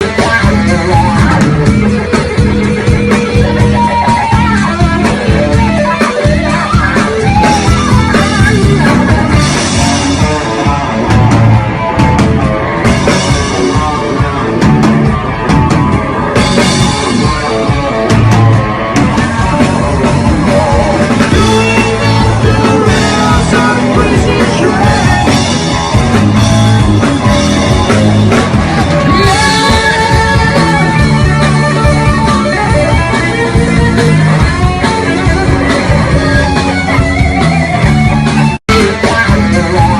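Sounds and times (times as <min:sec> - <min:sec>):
electric guitar: 0:00.0 - 0:39.9
live rock music: 0:00.0 - 0:39.9.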